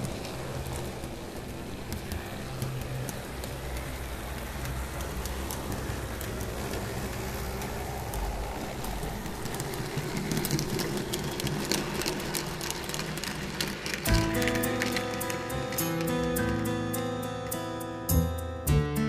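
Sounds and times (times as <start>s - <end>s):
wheels clicking over track: 0.0s - 18.4s.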